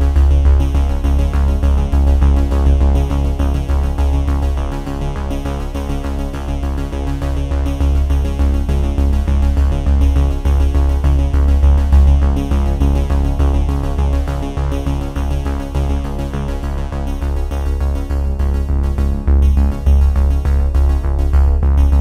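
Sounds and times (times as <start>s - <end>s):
electronic music with synthesizer: 0.0s - 22.0s
pulsing bass beat: 0.0s - 22.0s.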